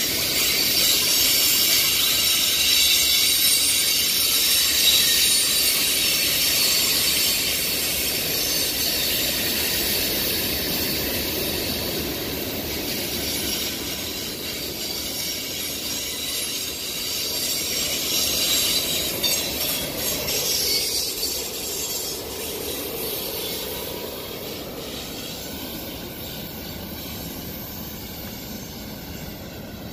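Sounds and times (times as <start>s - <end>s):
train wheels rumbling on rails: 0.0s - 29.9s
train wheels squealing: 0.0s - 29.9s.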